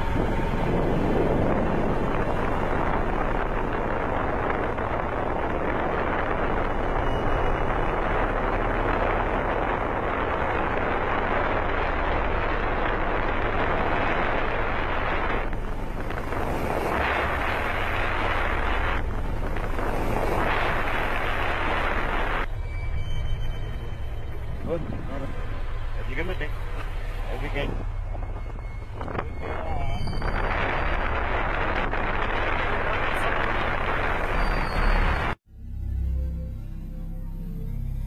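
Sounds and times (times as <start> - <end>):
wind and road rushing noise: 0.0 - 35.4
low hum: 0.0 - 38.0.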